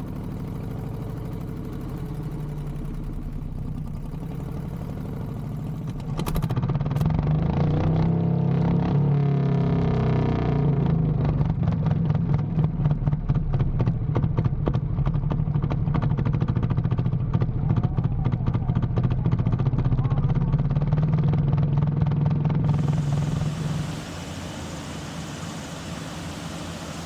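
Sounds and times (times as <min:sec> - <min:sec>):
engine clattering: 0:00.0 - 0:07.5, 0:11.4 - 0:27.0.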